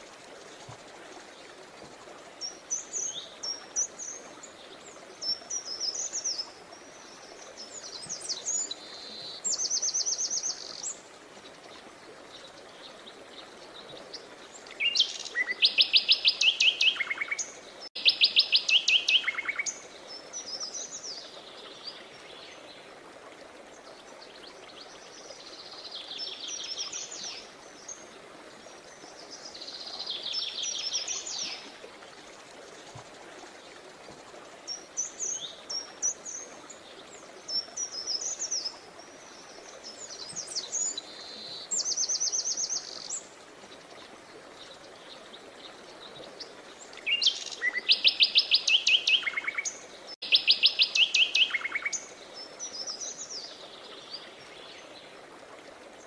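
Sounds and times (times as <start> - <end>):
songbirds singing and calling: 2.4 - 23.0, 23.7 - 31.8, 34.5 - 55.3.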